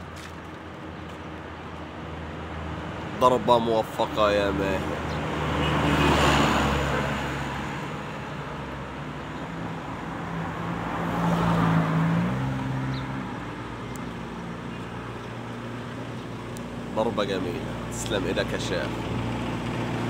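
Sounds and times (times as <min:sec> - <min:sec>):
cars passing: 0:00.0 - 0:20.0
traffic engine hum: 0:00.0 - 0:20.0.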